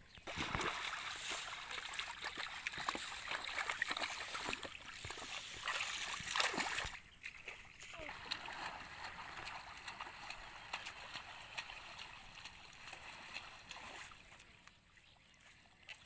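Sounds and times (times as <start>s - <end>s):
shallow water sloshing: 0.1s - 16.0s.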